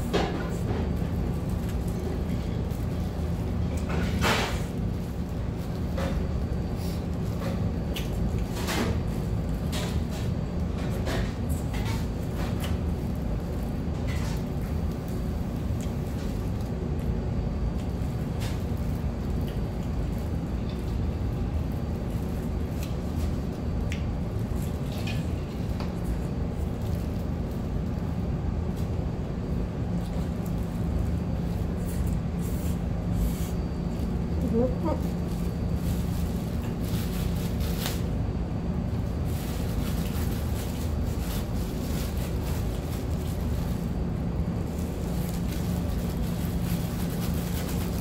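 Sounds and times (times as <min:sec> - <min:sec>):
low room noise rumble: 0:00.0 - 0:48.0.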